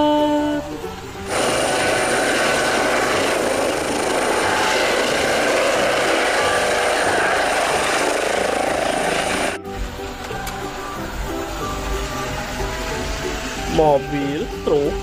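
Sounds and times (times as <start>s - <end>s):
turbine engine high whine: 0.0s - 15.0s
helicopter hovering: 1.1s - 15.0s.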